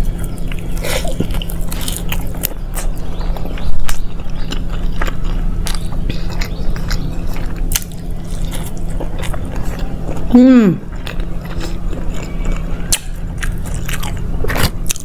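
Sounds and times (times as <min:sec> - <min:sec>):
person chewing with wet smacking: 0:00.0 - 0:15.0.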